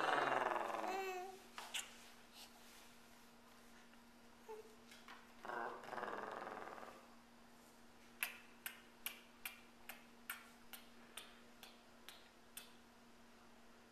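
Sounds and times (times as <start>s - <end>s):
faint hum: 0.0s - 13.9s.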